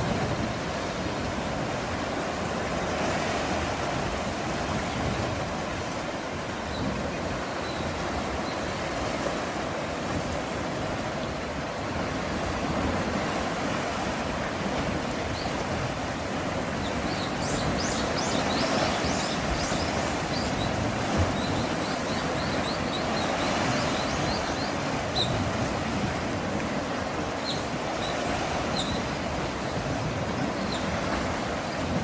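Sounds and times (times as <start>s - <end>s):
sea waves surging: 0.0s - 32.0s.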